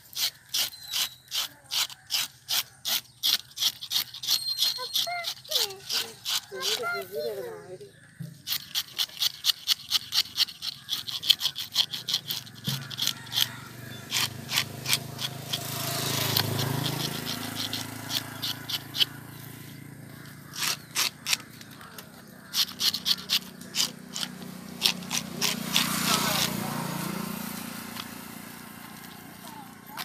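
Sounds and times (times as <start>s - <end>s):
fish scaler scraping scales: 0.0s - 30.0s.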